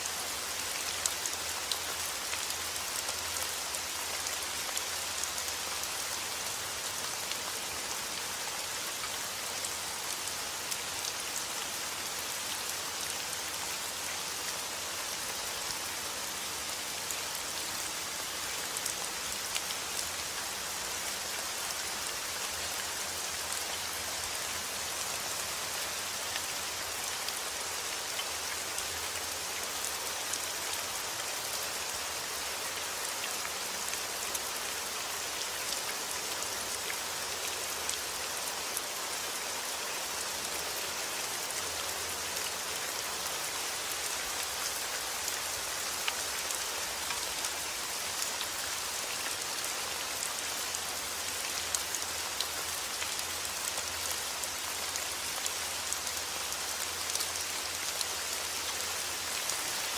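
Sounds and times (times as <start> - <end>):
heavy rain pattering on surfaces: 0.0 - 59.9.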